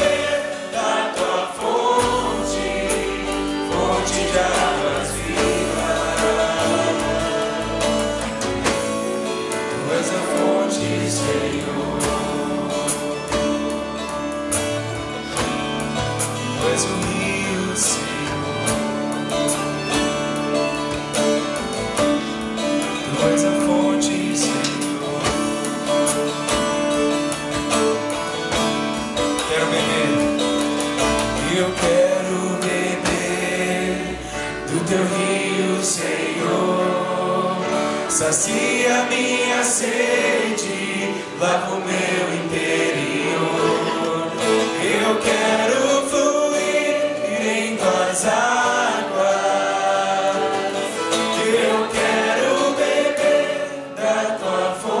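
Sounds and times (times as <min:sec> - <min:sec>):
voices singing: 0:00.0 - 0:15.3, 0:16.4 - 0:19.9, 0:22.3 - 0:26.5, 0:29.3 - 0:55.0
drums: 0:00.0 - 0:48.9
electric guitar: 0:00.0 - 0:54.2.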